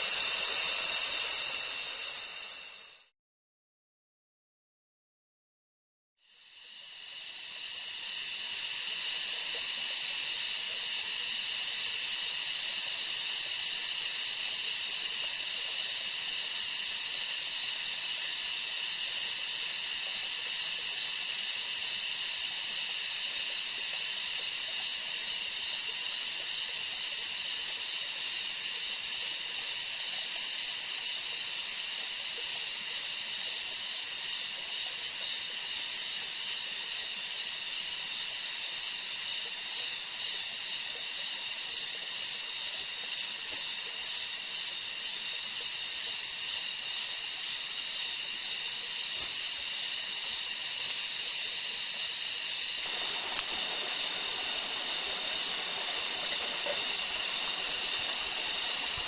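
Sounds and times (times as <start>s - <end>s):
insects chorus: 6.3s - 59.0s.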